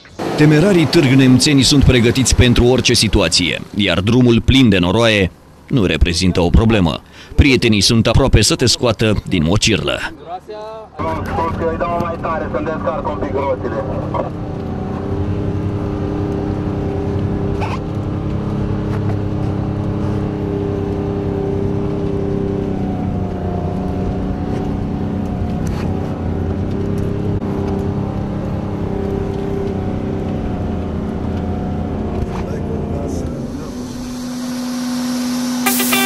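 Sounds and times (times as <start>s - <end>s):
engine running at low revs: 0.0s - 10.2s, 10.9s - 36.0s.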